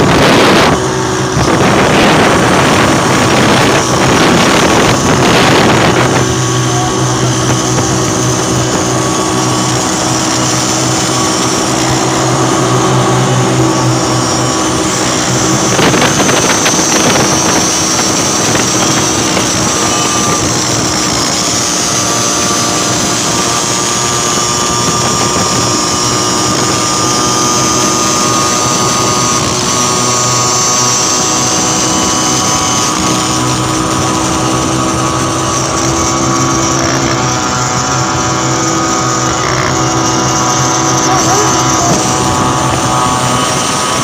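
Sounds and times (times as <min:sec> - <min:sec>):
rushing road noise: 0:00.0 - 0:44.0
small engines running at speed: 0:00.0 - 0:44.0.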